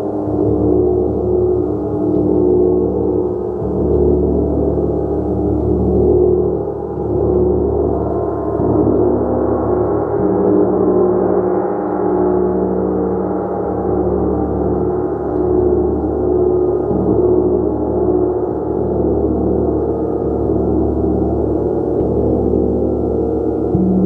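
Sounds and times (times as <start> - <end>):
gong sustained tones: 0.0 - 24.0.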